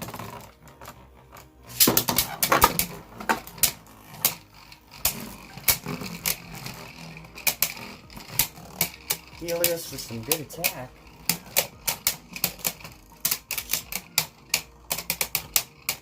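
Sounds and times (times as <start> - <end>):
spinning tops clashing: 1.6 - 16.0.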